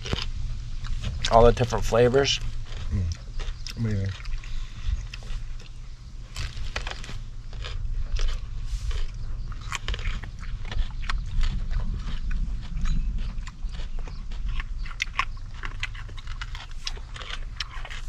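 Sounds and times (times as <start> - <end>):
popcorn being chewed: 0.0 - 18.0.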